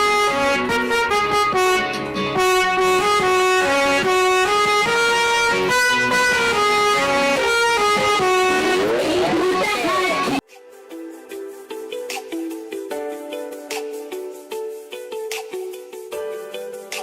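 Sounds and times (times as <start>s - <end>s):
instrumental melody: 0.0s - 17.0s.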